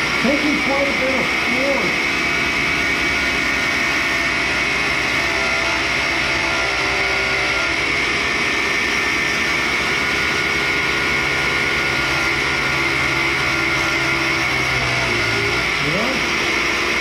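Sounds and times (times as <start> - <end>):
grinder cutting with high whine: 0.0 - 17.0
shop vacuum running: 0.0 - 17.0.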